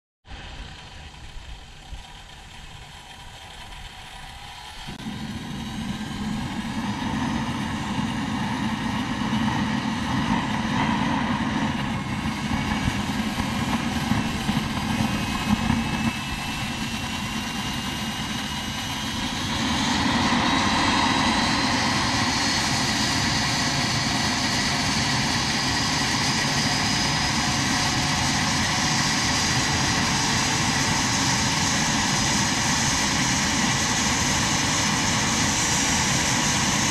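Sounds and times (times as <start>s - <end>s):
turbine whine rising: 0.3s - 36.9s.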